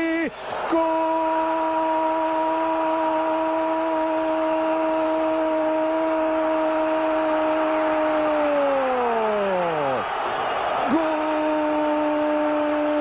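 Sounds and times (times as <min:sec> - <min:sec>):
male commentator's long goal cry: 0:00.0 - 0:13.0
stadium crowd cheering: 0:00.0 - 0:13.0.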